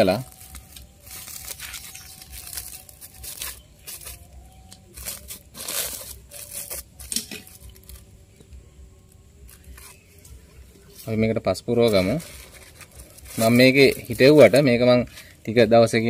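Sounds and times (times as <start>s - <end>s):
plastic sack rustling and crinkling: 0.0s - 8.4s, 9.4s - 16.0s.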